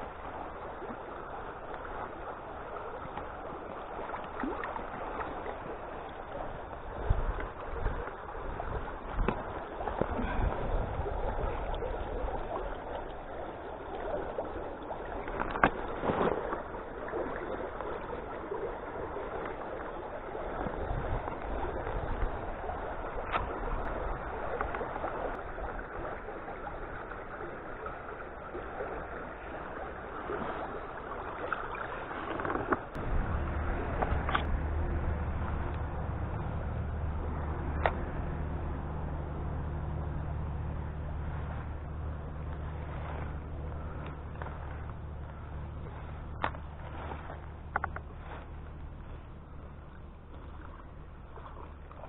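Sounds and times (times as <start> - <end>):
creek water gurgling over stones: 0.0 - 52.0
sharp knocks and splashes: 2.8 - 26.2, 29.8 - 52.0
deep rumble: 4.4 - 30.9, 32.7 - 52.0.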